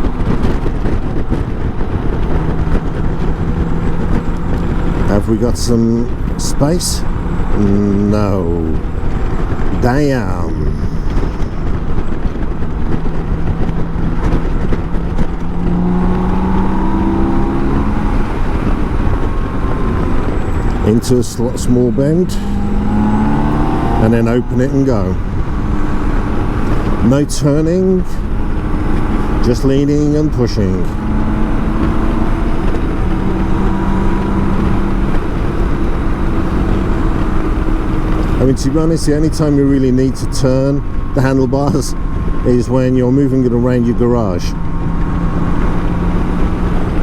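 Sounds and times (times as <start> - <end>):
motorcycle engine running: 0.0 - 47.0
wind and road rumble: 0.0 - 47.0.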